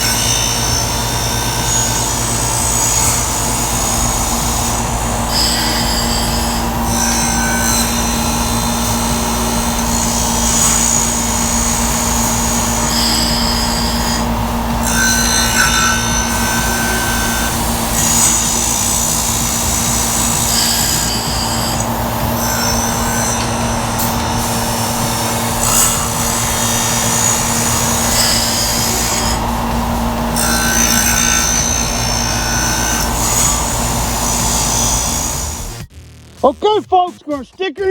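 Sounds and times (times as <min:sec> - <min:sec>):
grinding wheel rasping on chain: 0:00.0 - 0:35.9
sharpener motor hum: 0:00.0 - 0:35.9.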